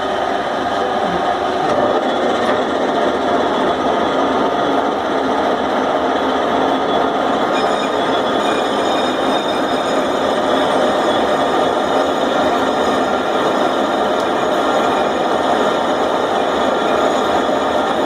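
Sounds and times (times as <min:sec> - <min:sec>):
lathe running with whine: 0:00.0 - 0:18.0.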